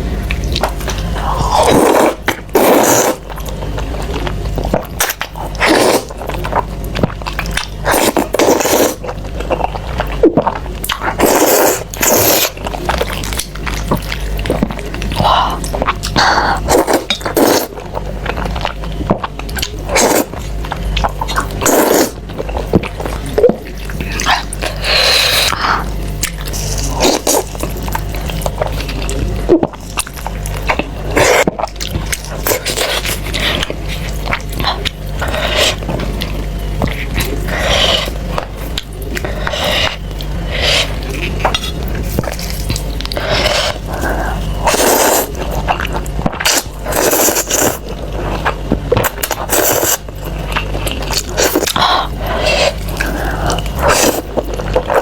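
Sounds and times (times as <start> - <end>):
slurping and chewing noodles: 0.0 - 55.0
steady low hum: 0.0 - 55.0.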